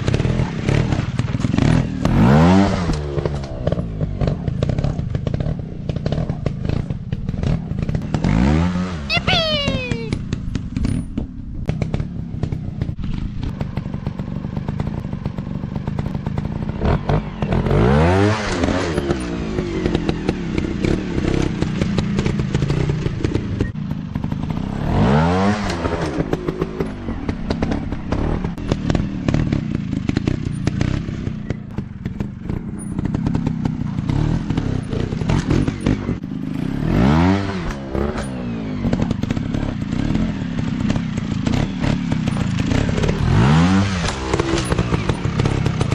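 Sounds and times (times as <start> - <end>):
dirt bike engines revving: 0.0 - 11.1, 11.7 - 45.9.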